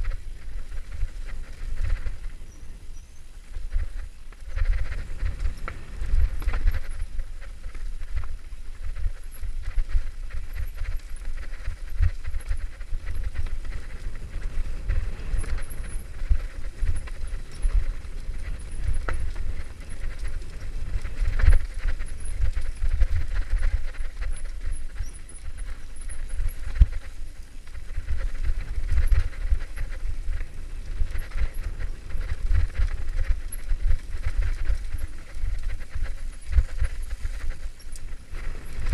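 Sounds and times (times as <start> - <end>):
bike rattling over bumps: 0.0 - 38.9
low rumble of wind: 0.0 - 38.9.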